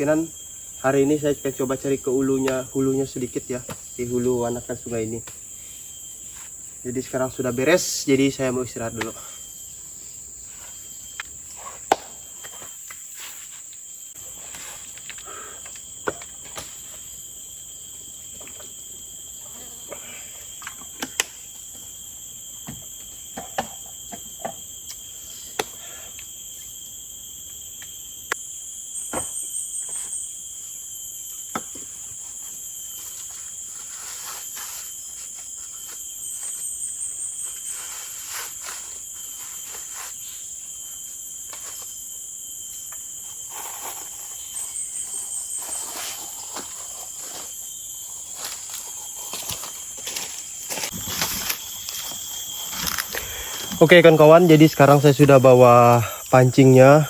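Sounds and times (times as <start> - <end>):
insects droning: 0.0 - 57.0
pulsing insect call: 0.0 - 57.0.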